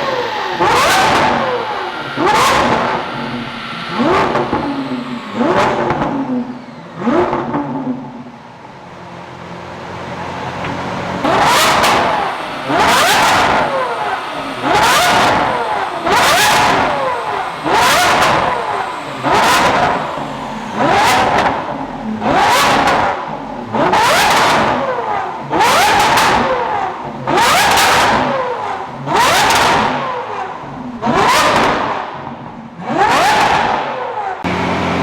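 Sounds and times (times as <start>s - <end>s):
car engine revving hard: 0.0s - 35.0s
engine humming steadily: 0.0s - 35.0s.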